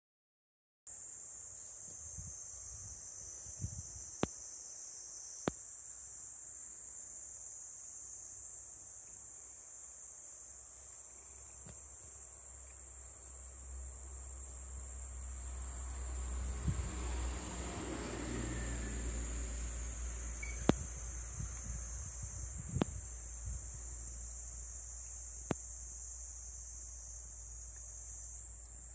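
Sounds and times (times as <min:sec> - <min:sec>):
high-pitched insect drone: 0:01.2 - 0:28.9.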